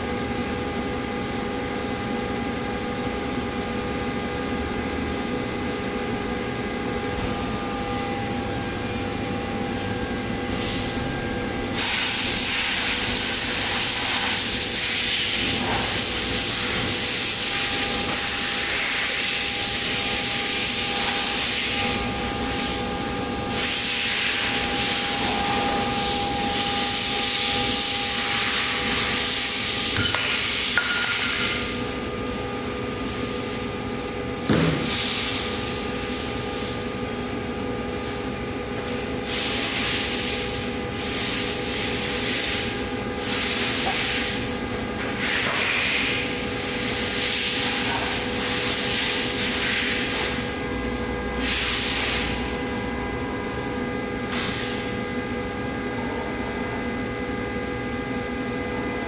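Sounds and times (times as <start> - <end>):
machine hum with tones: 0.0 - 59.0.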